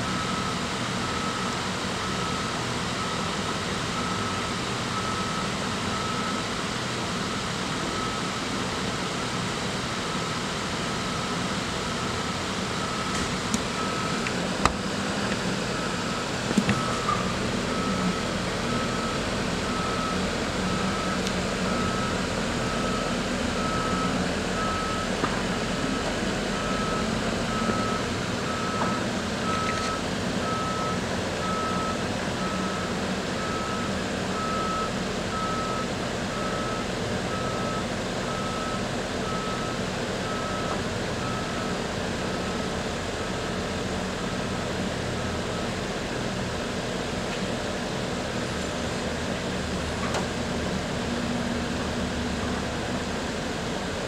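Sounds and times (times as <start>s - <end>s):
vehicle reversing alarm beeping: 0.0s - 46.4s
site machinery hum: 0.0s - 54.0s
street traffic: 0.0s - 54.0s.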